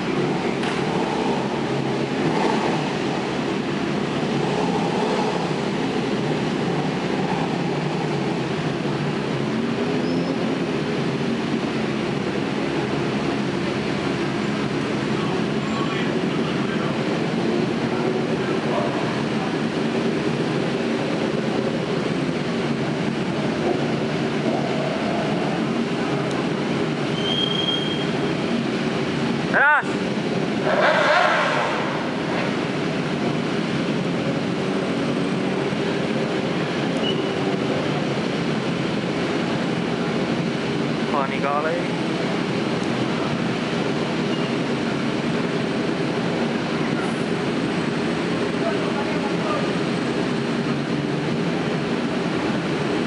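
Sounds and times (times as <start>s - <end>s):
motorcycle engines droning: 0.0s - 53.0s.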